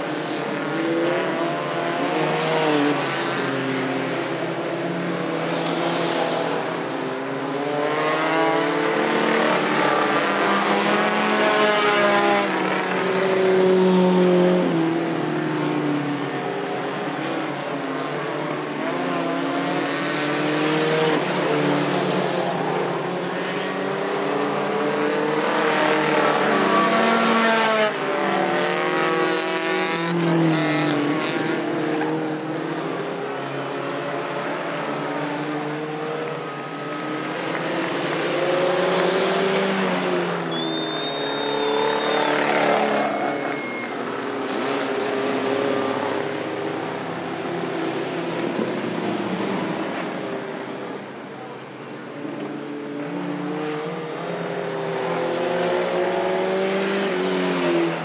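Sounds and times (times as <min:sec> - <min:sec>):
racing truck engines revving: 0:00.0 - 0:58.0.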